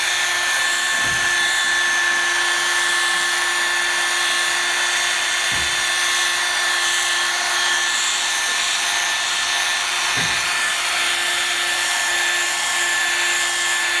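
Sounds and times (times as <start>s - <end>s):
electric polishing machine whine: 0.0s - 14.0s.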